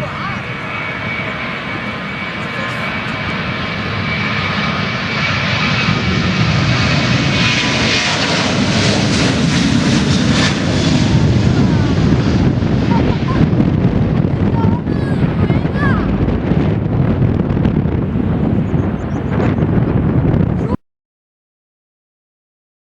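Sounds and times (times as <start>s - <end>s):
airliner engines roaring: 0.0s - 20.8s.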